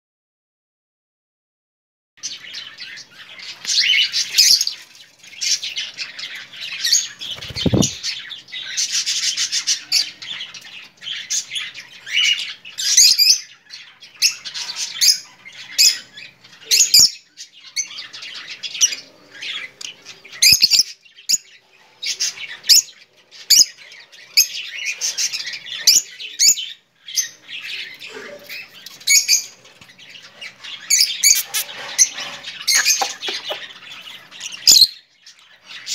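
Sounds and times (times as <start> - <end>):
lovebirds chirping and squawking: 2.2 - 35.9.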